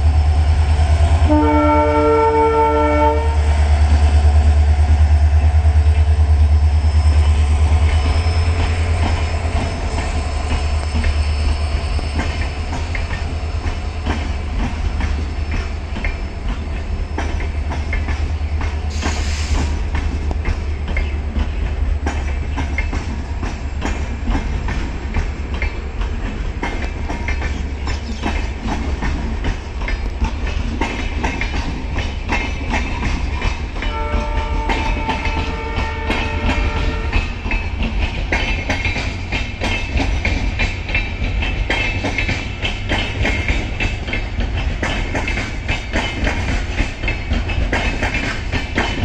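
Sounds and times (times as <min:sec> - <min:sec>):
train wheels clickety-clack: 0:00.0 - 0:49.0.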